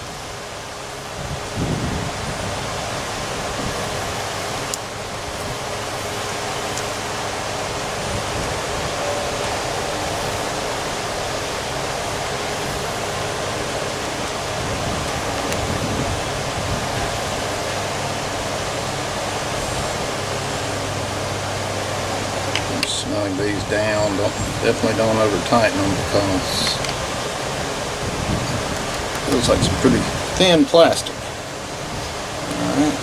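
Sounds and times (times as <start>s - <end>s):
fan running: 0.0s - 33.0s.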